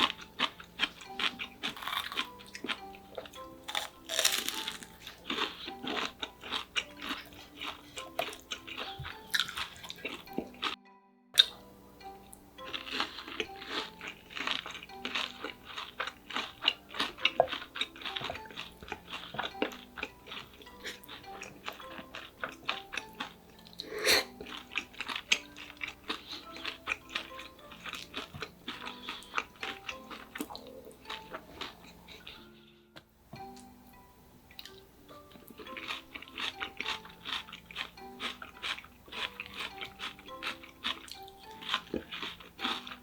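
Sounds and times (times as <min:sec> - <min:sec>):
crunching and chewing fried food: 0:00.0 - 0:10.8, 0:11.4 - 0:32.5, 0:34.5 - 0:43.0.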